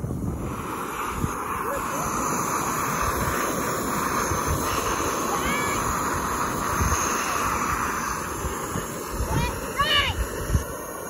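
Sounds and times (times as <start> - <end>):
camping stove hissing: 0.0 - 11.0
wind rumbling on microphone: 0.0 - 11.0.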